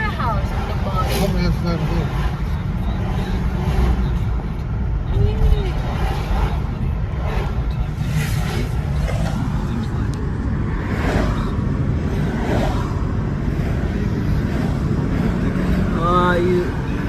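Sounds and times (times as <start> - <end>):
car driving rumble inside cabin: 0.0 - 17.0.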